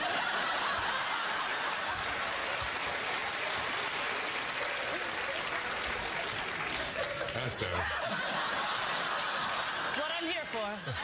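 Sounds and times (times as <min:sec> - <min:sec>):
audience laughing: 0:00.0 - 0:03.6, 0:04.6 - 0:11.0
audience applauding: 0:00.0 - 0:11.0.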